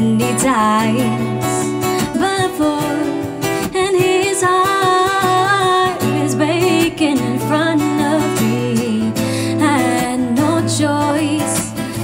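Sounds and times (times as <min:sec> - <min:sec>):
guitar: 0:00.0 - 0:12.0
person singing: 0:00.0 - 0:12.0.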